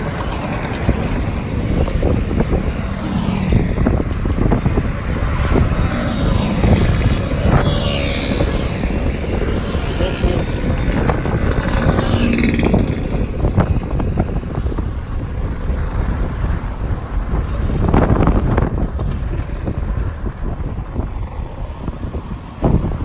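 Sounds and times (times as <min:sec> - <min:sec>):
road vehicles passing: 0:00.0 - 0:23.0
wind buffeting microphone: 0:00.0 - 0:23.0.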